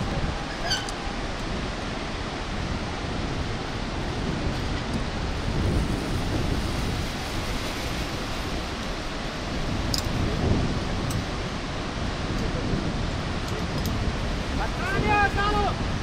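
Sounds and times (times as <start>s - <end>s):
distant river rapids rushing: 0.0s - 16.0s
wind buffeting microphone: 0.0s - 16.0s.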